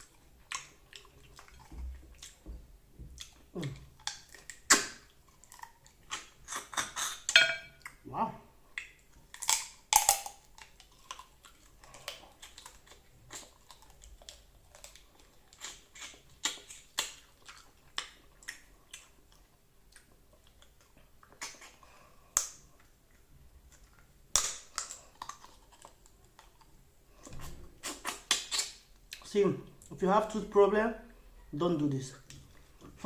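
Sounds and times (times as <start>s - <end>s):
bones crunching while chewed: 0.0s - 8.0s, 8.8s - 29.3s.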